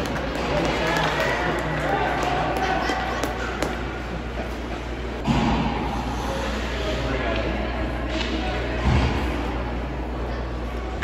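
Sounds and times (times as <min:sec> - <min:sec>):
rink and crowd noise: 0:00.0 - 0:11.0.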